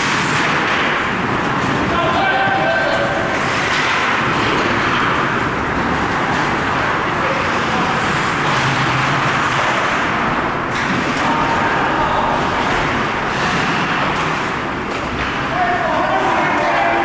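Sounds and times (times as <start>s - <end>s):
ice hockey rink din: 0.0s - 17.0s.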